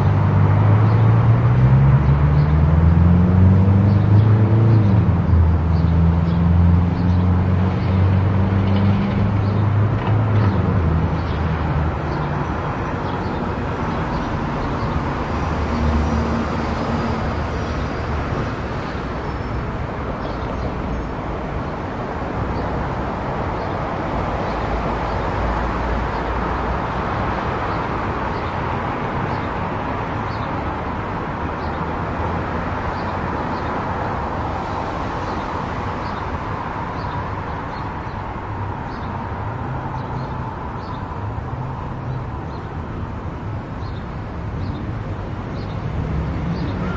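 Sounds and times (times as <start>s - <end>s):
tyre and road noise: 0.0s - 46.9s.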